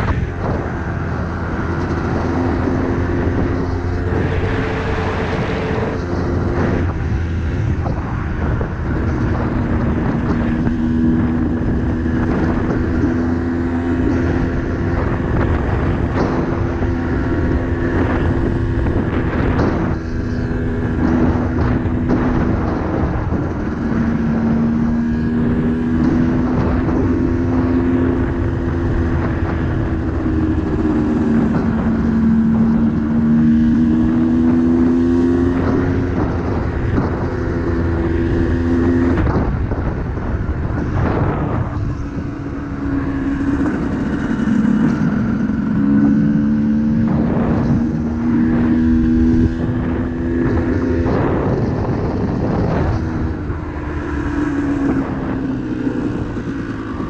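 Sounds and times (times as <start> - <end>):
broad rushing noise: 0.0 - 57.0.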